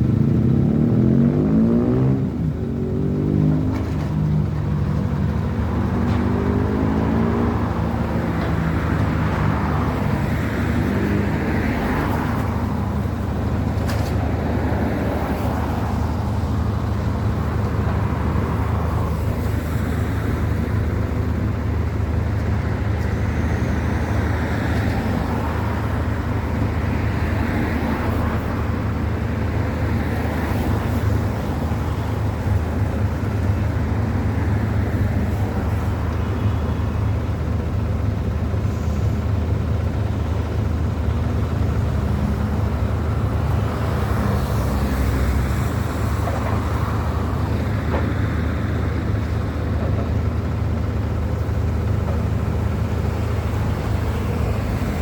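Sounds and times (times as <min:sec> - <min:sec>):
low engine hum: 0:00.0 - 0:55.0
street traffic: 0:00.0 - 0:55.0.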